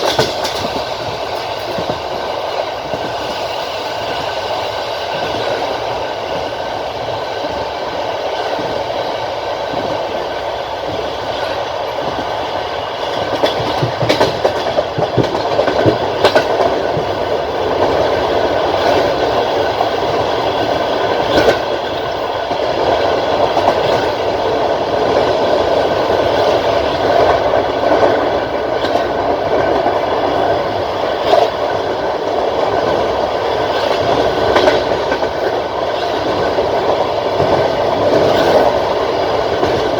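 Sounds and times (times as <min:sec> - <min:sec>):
wheels clacking over rail joints: 0:00.0 - 0:07.6, 0:09.7 - 0:39.9
train wheels rumbling on rails: 0:00.0 - 0:39.9.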